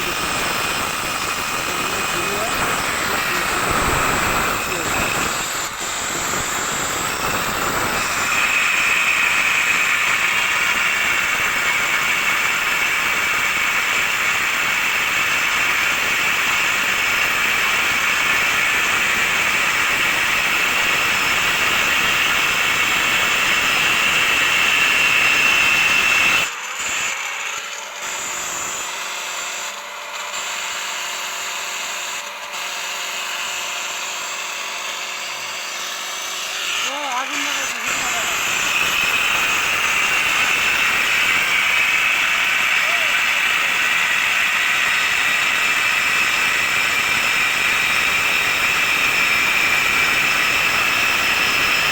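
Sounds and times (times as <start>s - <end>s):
angle grinder whining: 0.0s - 51.9s.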